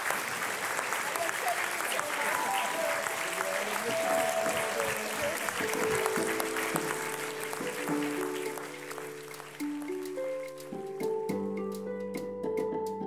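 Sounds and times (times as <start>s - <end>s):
audience applauding: 0.0s - 10.9s
music with long held notes: 2.3s - 13.0s.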